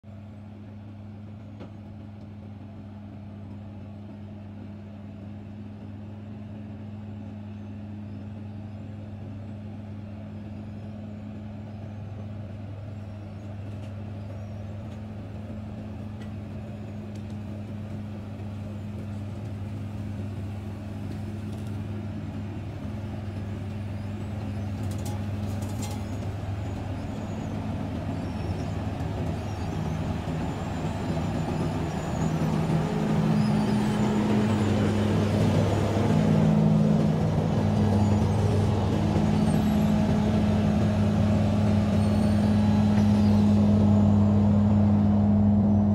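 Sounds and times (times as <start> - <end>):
diesel engine drone: 0.0 - 45.9.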